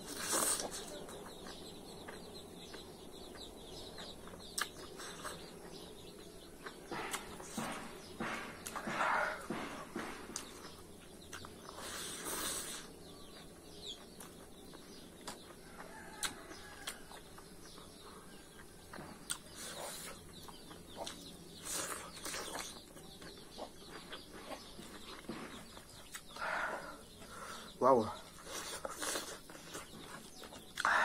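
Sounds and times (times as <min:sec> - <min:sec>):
wet chewing and lip smacking: 0:00.0 - 0:09.6, 0:10.3 - 0:26.4, 0:28.3 - 0:30.9.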